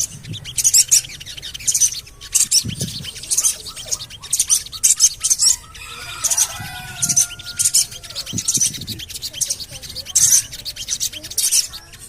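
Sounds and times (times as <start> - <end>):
high sharp bird chirps: 0.0 - 12.0
low quick bird chattering: 0.0 - 12.0.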